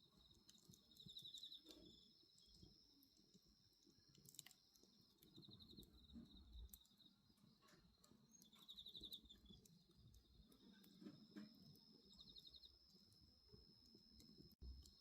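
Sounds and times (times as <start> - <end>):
bonfire crackling and popping: 0.0 - 15.0
crickets trilling: 0.0 - 15.0.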